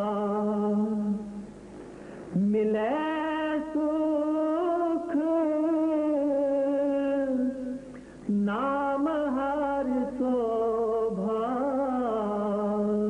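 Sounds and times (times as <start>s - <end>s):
person singing a hymn: 0.0s - 1.5s, 2.3s - 13.0s.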